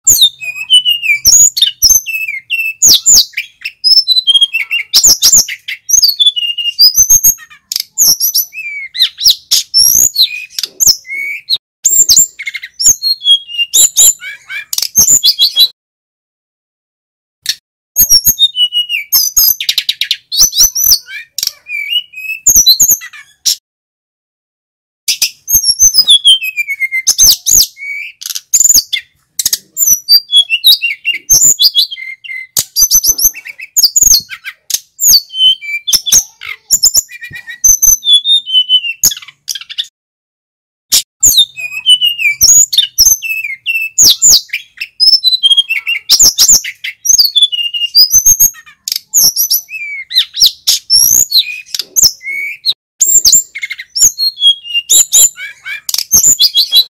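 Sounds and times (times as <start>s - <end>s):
bird singing high chirps and trills: 0.0s - 15.8s, 17.5s - 23.6s, 25.1s - 39.9s, 41.0s - 56.9s.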